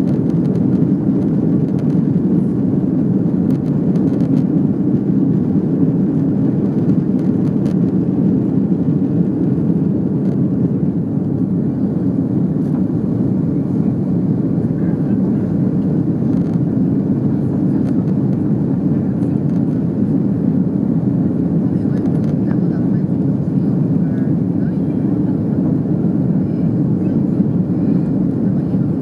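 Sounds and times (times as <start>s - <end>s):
jet engine and airflow roar: 0.0s - 29.0s.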